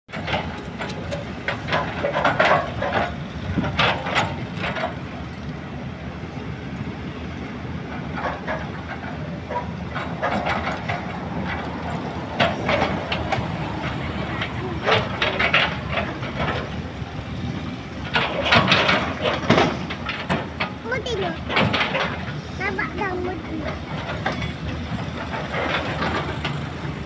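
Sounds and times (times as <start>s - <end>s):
machine clanking and squealing: 0.1s - 5.4s, 7.9s - 27.0s
diesel engines rumbling: 0.1s - 27.0s.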